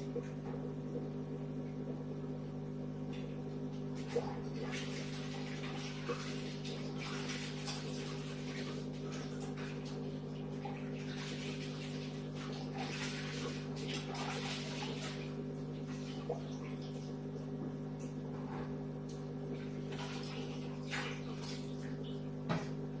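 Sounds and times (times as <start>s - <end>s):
bubbling splashing water: 0.0s - 18.3s, 19.3s - 23.0s
aquarium filter hum: 0.0s - 23.0s.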